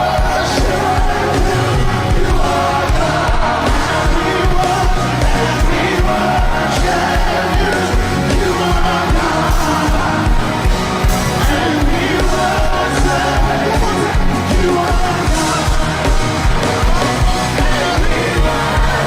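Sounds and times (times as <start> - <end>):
band playing gospel music: 0.0 - 19.0
people singing: 0.0 - 19.0.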